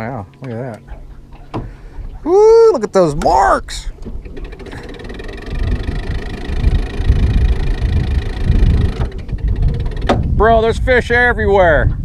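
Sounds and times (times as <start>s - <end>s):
boat motor low rumble: 0.0s - 12.0s.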